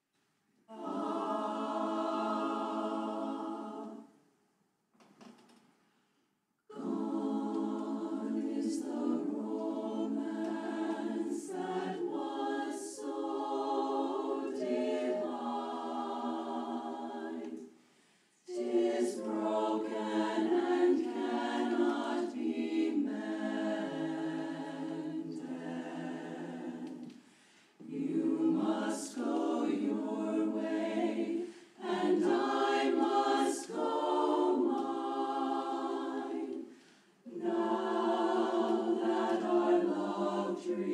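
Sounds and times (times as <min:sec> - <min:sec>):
women's chorus singing a cappella: 0:00.6 - 0:04.3, 0:06.7 - 0:40.9.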